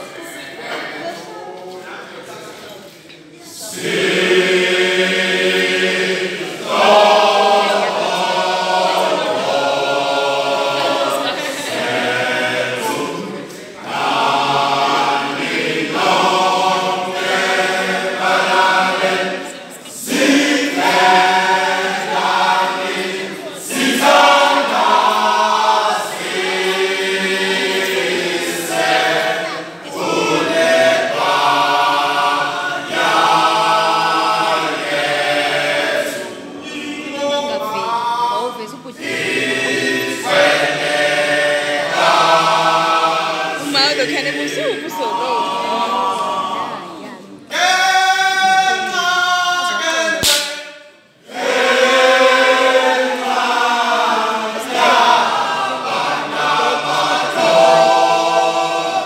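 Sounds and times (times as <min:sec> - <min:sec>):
male choir singing a cappella: 0:03.4 - 0:59.0.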